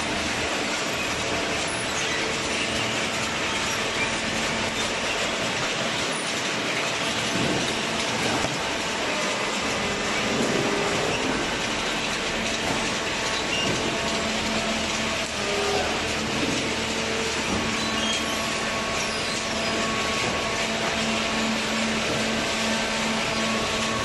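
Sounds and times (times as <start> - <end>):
baler machine running: 0.0 - 24.0.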